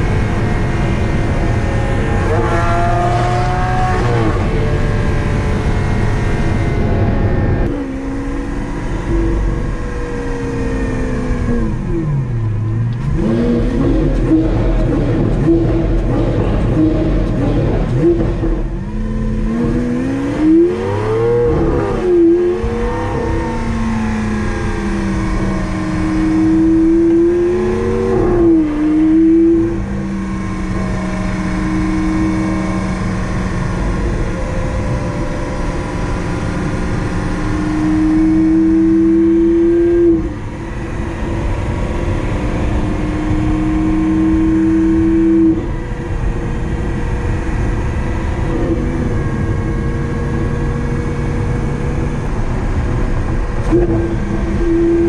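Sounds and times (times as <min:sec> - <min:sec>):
car engine accelerating through gears: 0:00.0 - 0:55.0
car engine revving: 0:00.0 - 0:55.0.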